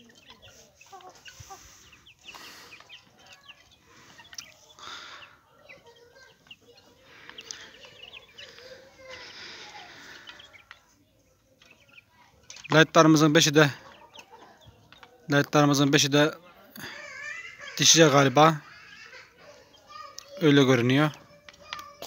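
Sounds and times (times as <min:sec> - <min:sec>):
chicks peeping and clucking: 0:00.0 - 0:22.0.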